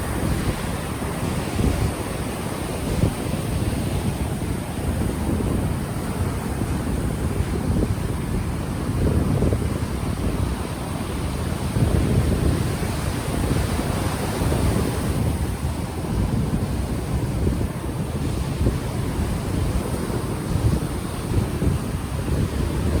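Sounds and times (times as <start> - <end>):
ocean waves washing ashore: 0.0 - 23.0
wind buffeting microphone: 0.0 - 23.0.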